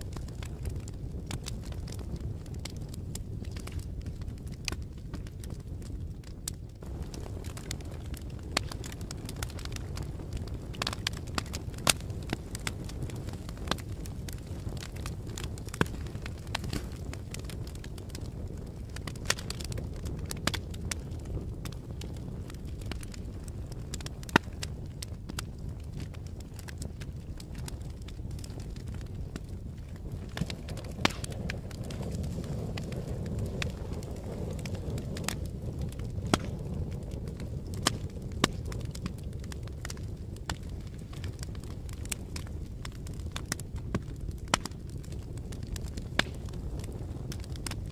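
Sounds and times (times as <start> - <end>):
fire crackling and popping: 0.0 - 47.9.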